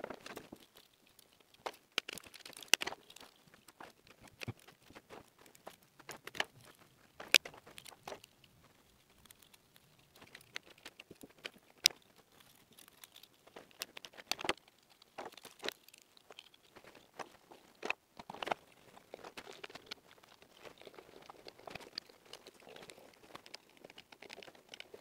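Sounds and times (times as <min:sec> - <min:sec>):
cable rustling: 0:00.0 - 0:25.0
small clicks of plastic parts: 0:00.0 - 0:25.0.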